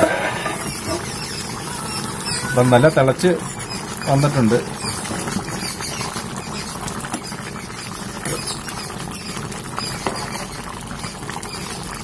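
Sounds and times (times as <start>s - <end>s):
ladle stirring: 0.0s - 11.3s
curry bubbling and popping: 0.0s - 12.0s.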